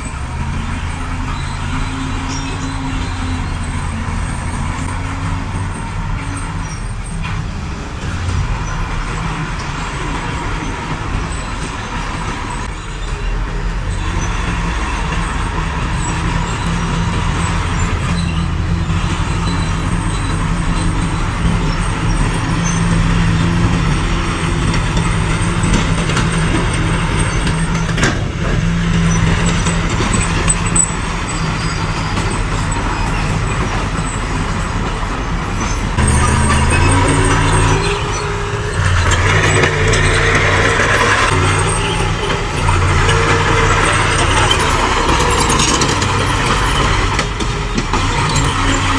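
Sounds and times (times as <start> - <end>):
heavy machinery diesel engines: 0.0 - 48.9.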